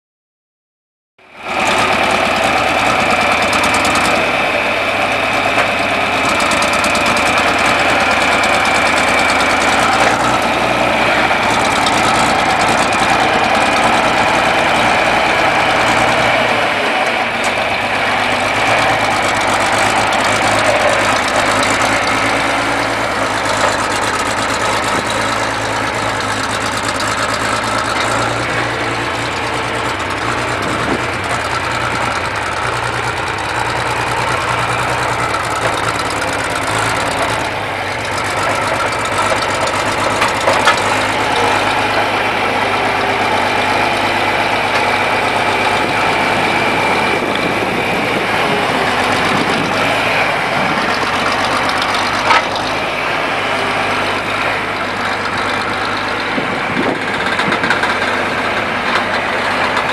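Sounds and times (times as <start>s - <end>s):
tractor engine idling: 1.2s - 59.9s.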